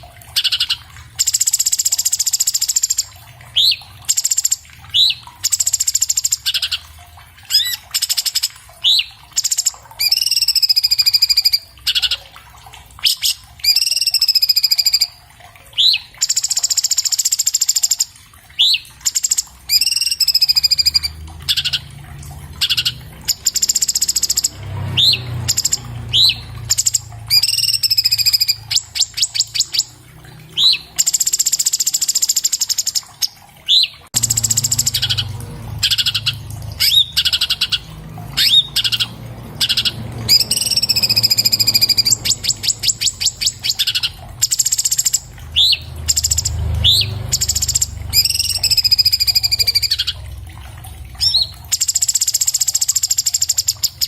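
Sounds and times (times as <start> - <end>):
bird singing varied song: 0.0 - 6.9, 7.5 - 12.2, 13.0 - 15.2, 15.8 - 21.9, 22.6 - 29.9, 30.5 - 50.2, 51.2 - 54.0.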